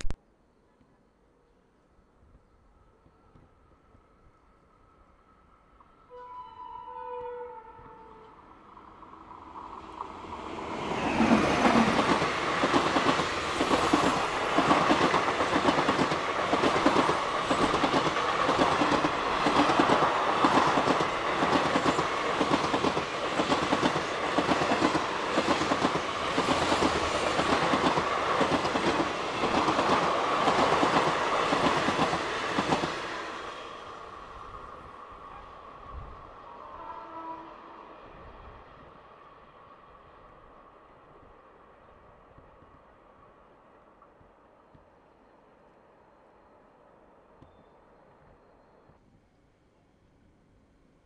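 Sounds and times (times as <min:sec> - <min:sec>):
electric locomotive passing: 0:02.6 - 0:51.0.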